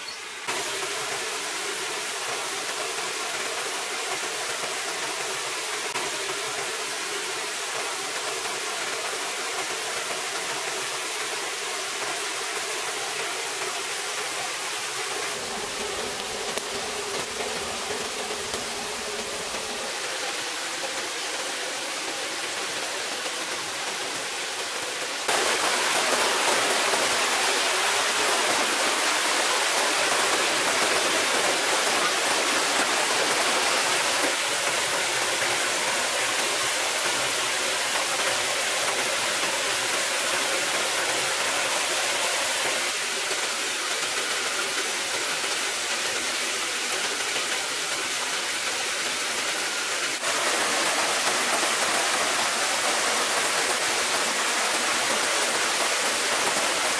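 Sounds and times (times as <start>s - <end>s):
stream running over rocks: 0.0s - 56.9s.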